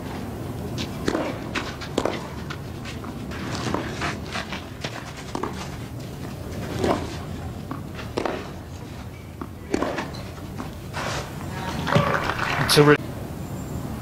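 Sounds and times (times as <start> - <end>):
players' footsteps on clay: 0.0 - 12.8
tennis racket hitting ball: 0.8 - 12.5.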